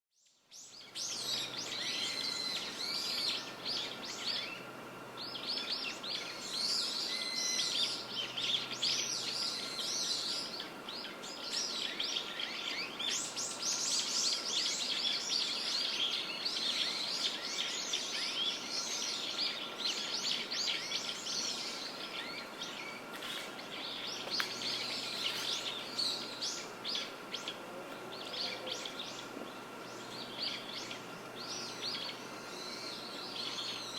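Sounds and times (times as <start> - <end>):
small birds chirping: 0.2 - 33.9
steady background hiss: 0.3 - 33.9.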